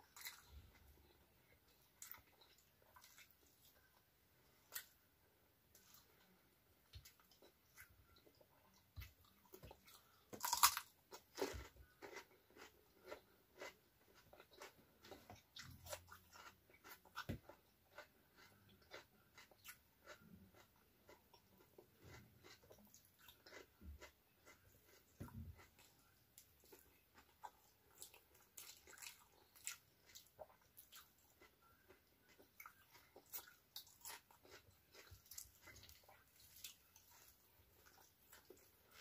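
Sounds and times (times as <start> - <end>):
chewing and crunching food: 0.0 - 5.1, 5.7 - 39.0.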